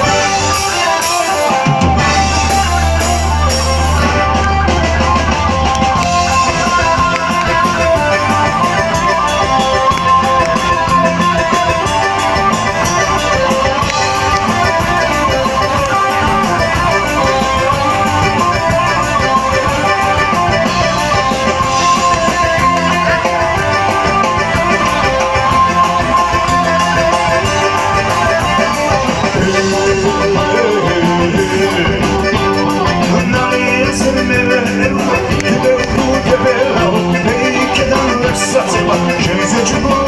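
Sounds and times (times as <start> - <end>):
drum kit: 0.0 - 40.0
electric guitars: 0.0 - 40.0.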